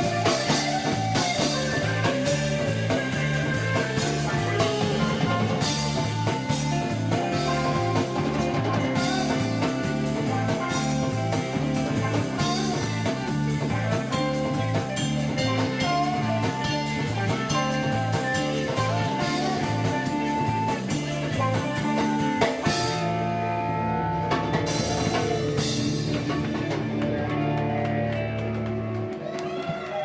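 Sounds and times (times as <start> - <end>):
drum kit beat: 0.0 - 29.1
guitar playing: 0.0 - 29.2.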